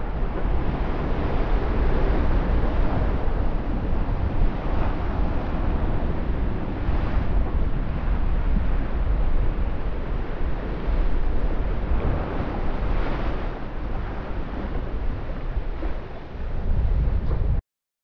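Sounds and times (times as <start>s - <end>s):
sea water rushing along hull: 0.0s - 17.6s
wind buffeting microphone: 0.0s - 17.6s.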